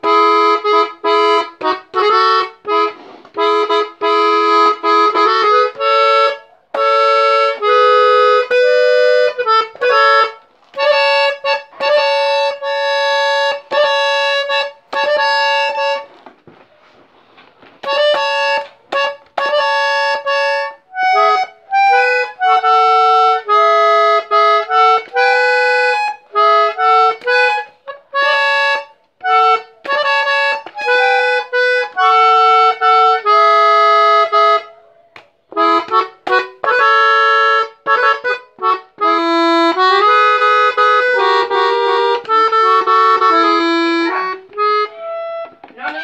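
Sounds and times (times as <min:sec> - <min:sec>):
button accordion melody: 0:00.0 - 0:46.0.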